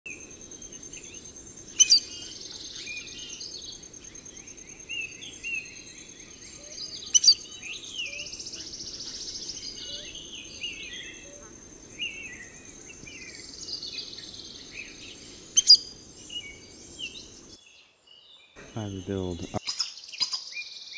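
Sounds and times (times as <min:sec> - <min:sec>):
high insect drone: 0:00.1 - 0:17.6
birds chirping and trilling: 0:00.1 - 0:20.9.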